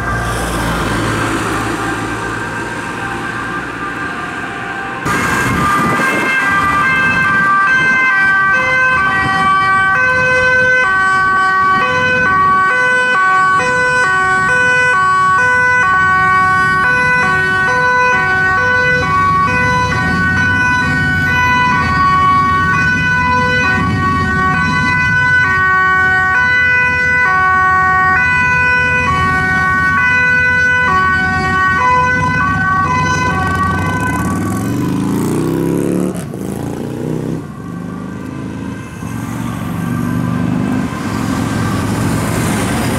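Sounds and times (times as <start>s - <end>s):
road traffic rumble: 0.0s - 42.9s
two-tone police sirens: 0.0s - 42.9s.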